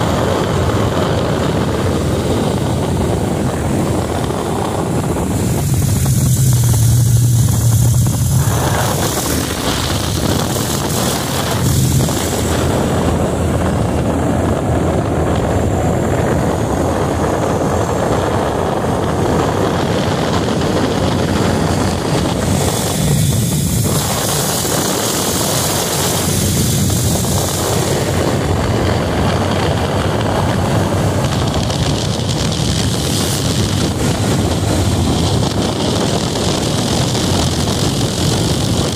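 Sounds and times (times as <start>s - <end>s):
motorcycle engine droning: 0.0s - 38.9s
wind rushing over microphone: 0.0s - 38.9s.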